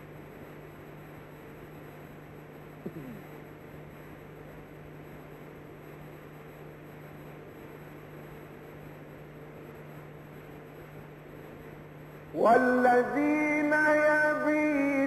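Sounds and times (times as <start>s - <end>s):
low electrical hum: 0.0s - 15.0s
tape hiss: 0.0s - 15.0s.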